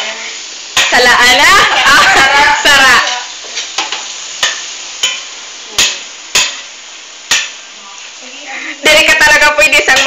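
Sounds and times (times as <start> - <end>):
frying sizzle: 0.0 - 10.0.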